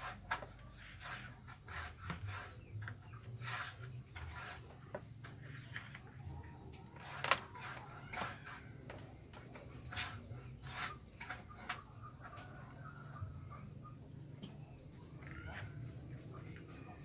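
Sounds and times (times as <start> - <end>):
bamboo lids clicking and knocking: 0.0 - 17.0.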